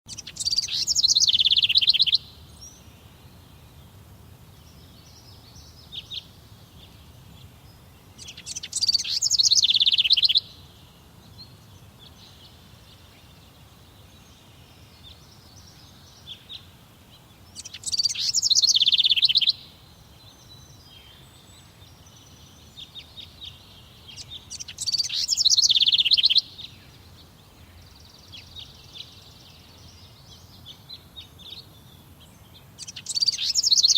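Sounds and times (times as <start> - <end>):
faint bird chirps: 0.1 - 3.9, 4.5 - 33.9
songbird singing with trill: 0.1 - 33.9.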